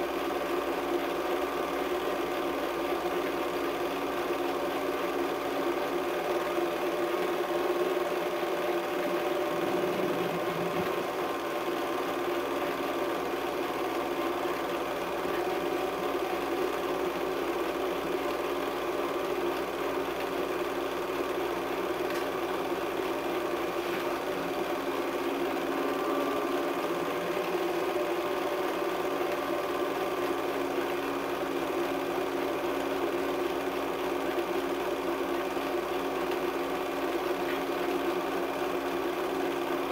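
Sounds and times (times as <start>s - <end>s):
movie projector whirring: 0.0s - 39.9s.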